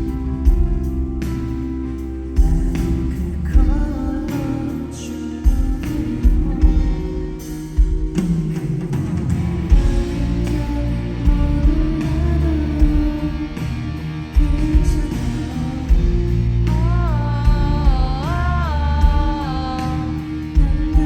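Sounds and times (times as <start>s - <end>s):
drum beat: 0.0s - 1.8s, 2.4s - 4.6s, 5.4s - 13.8s, 14.4s - 21.0s
person singing: 0.0s - 8.9s, 9.7s - 21.0s
bass: 0.0s - 21.0s
guitar: 0.0s - 21.0s.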